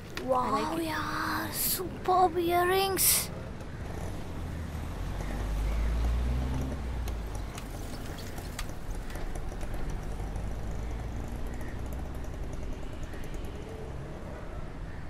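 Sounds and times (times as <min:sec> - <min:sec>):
low street rumble: 0:00.0 - 0:15.0.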